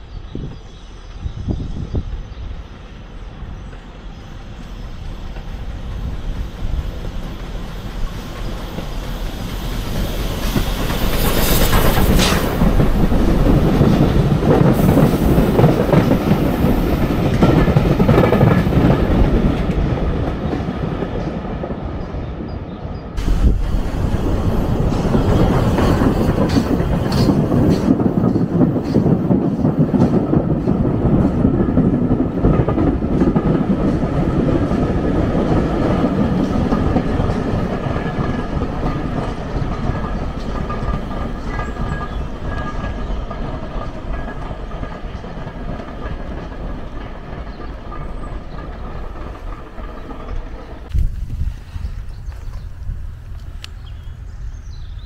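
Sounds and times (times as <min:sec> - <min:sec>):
train rumbling: 0:00.0 - 0:55.0
train wheels clacking on rail joints: 0:03.7 - 0:21.3, 0:23.2 - 0:51.4.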